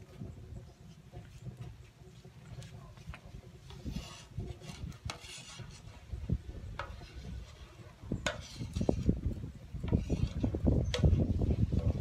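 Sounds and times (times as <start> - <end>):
wind rumble on microphone: 0.0 - 12.0
wooden stick scraping on griddle: 0.0 - 12.0.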